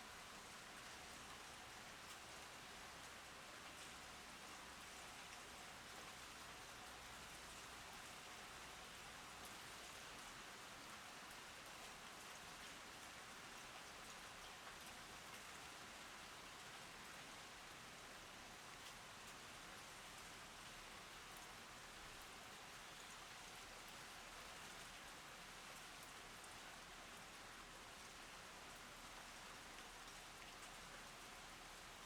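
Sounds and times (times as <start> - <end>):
faint rain hiss: 0.0 - 32.0.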